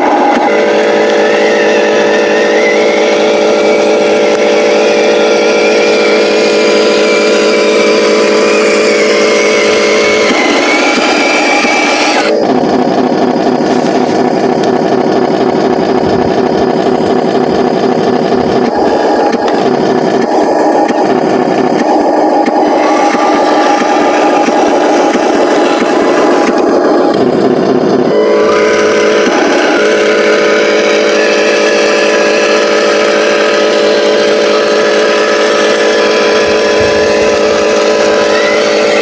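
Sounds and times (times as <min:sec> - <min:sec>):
toy truck motor whine: 0:00.0 - 0:39.0.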